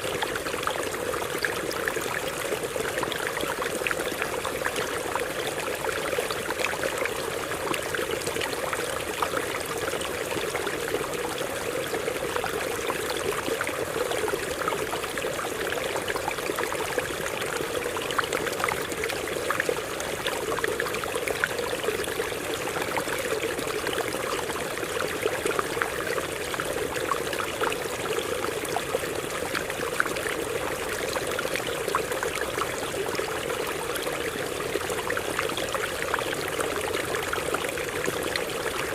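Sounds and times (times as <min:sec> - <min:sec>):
stream water splashing over rocks: 0:00.0 - 0:38.9.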